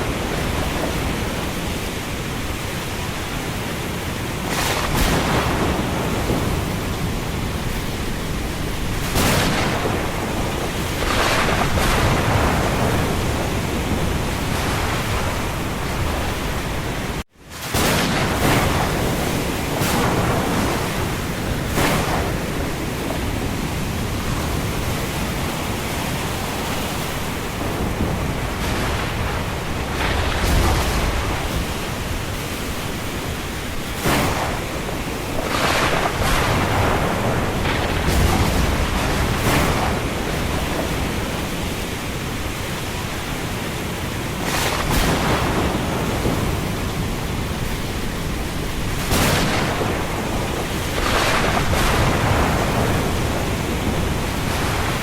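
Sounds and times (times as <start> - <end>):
deep thunder rumbling: 0.0 - 3.4, 4.1 - 55.0
wind and rain hiss: 0.0 - 55.0.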